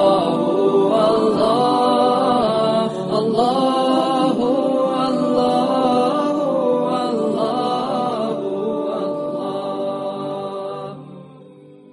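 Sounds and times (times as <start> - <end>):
chanted devotional vocal: 0.0 - 11.9.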